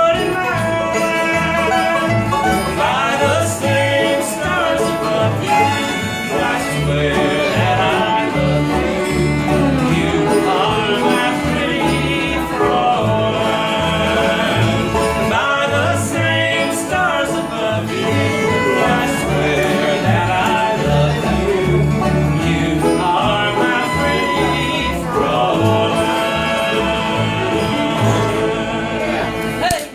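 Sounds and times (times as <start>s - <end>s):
country band playing live: 0.0s - 29.9s.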